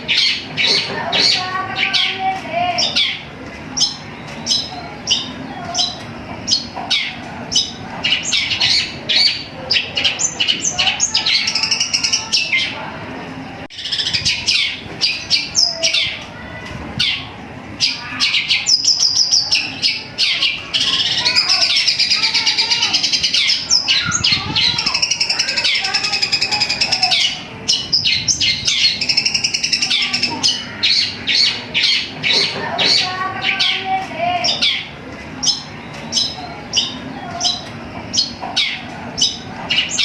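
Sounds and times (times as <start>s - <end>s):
bird singing high chirps: 2.8s - 12.8s, 17.0s - 40.0s.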